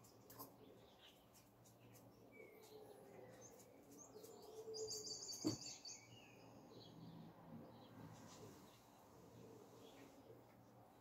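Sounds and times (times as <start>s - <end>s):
faint bird chirps: 0.5s - 10.3s.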